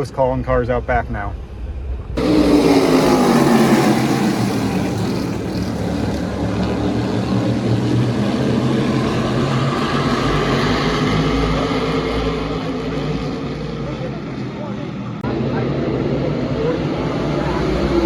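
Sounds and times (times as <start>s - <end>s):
engine running: 2.2s - 18.0s.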